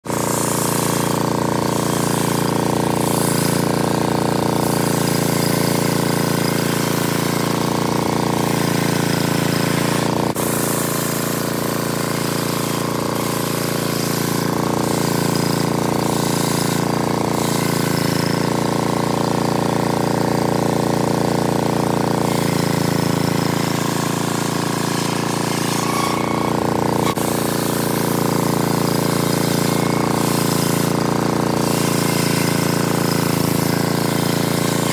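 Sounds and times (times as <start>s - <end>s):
circular saw cutting log: 0.0s - 34.9s.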